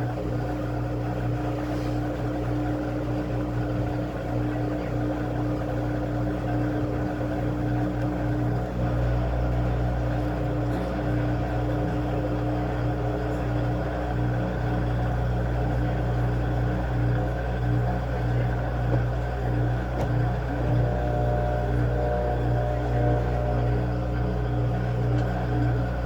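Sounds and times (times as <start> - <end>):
washing machine running: 0.0 - 26.0.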